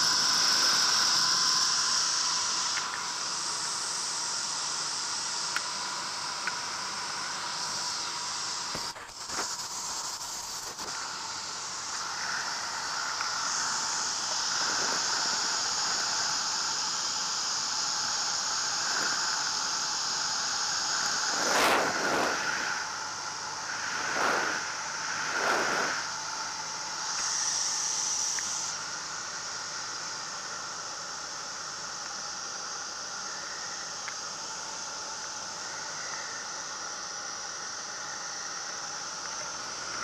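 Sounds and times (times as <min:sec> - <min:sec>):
faint steady whine: 0:00.0 - 0:40.0
wind noise hissing: 0:00.0 - 0:40.0.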